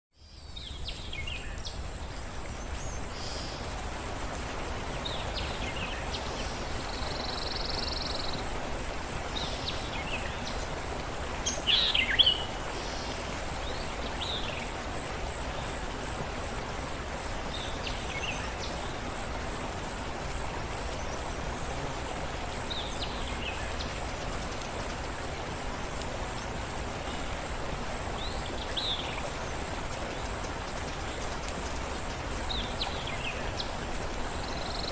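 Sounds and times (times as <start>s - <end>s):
water ambience: 0.1s - 34.9s.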